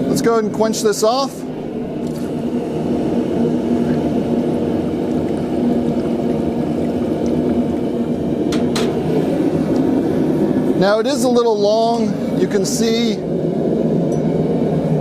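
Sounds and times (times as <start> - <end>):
liquid boiling and bubbling: 0.0 - 15.0.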